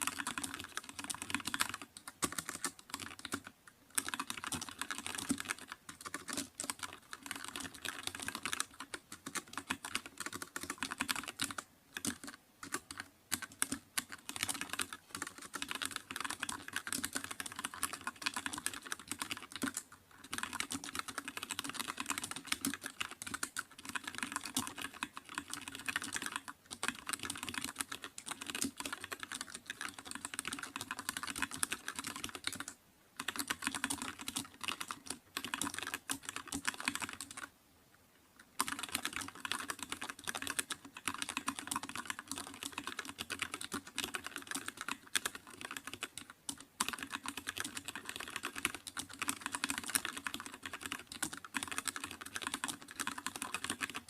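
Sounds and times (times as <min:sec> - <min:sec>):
fast typing on keyboard: 0:00.0 - 0:37.5, 0:38.5 - 0:54.0.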